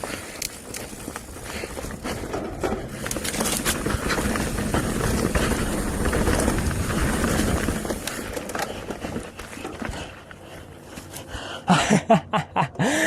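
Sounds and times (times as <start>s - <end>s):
bike tyres crunching on dirt: 0.0s - 11.6s.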